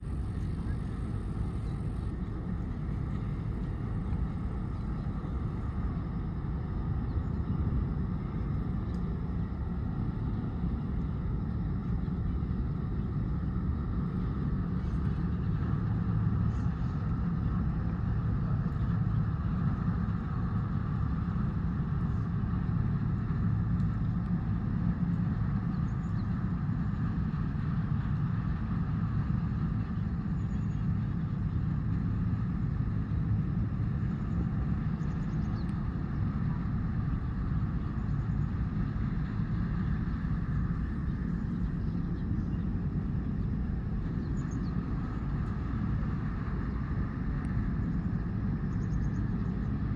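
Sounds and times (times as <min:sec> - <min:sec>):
low engine rumble: 0:00.0 - 0:49.9.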